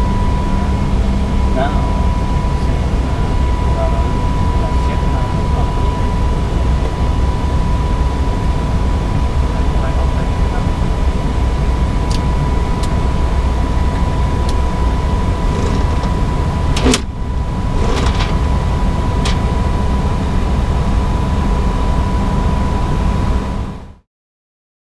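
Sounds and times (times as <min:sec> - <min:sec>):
airflow and engine rumble: 0:00.0 - 0:24.0.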